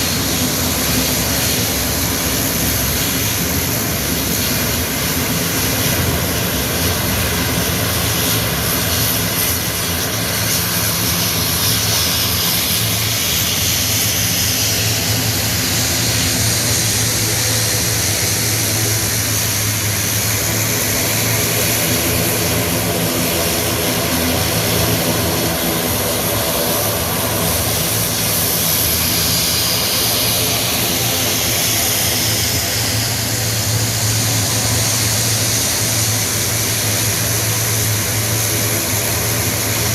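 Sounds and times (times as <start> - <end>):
propeller aircraft engines humming: 0.0 - 39.9.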